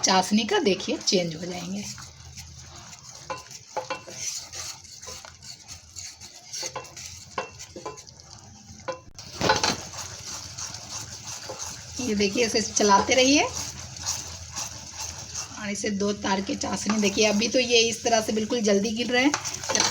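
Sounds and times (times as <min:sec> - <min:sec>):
spoon stirring and scraping a pan: 0:00.0 - 0:19.9
syrup hissing on heat: 0:00.0 - 0:19.9.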